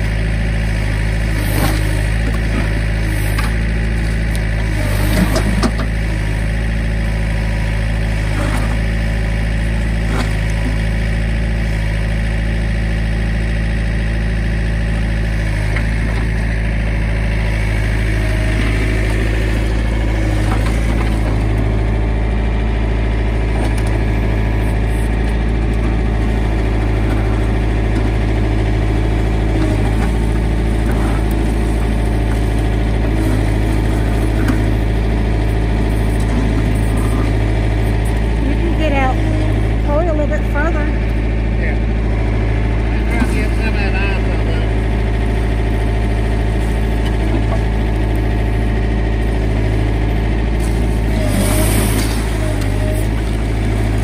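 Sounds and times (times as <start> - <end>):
diesel engine running loudly: 0.0 - 54.0.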